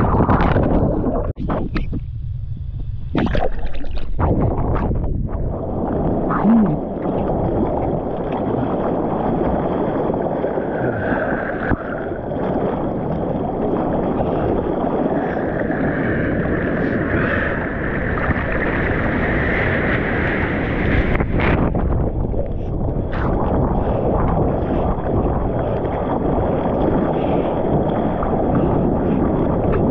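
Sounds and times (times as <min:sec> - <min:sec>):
wind buffeting microphone: 0:00.0 - 0:29.9
seawater rushing: 0:03.1 - 0:29.9.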